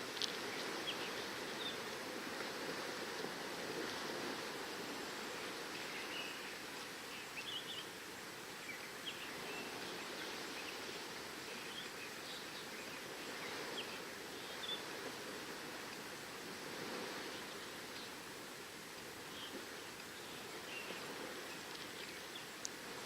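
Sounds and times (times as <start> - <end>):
ocean waves: 0.0 - 23.0
wind: 0.0 - 23.0.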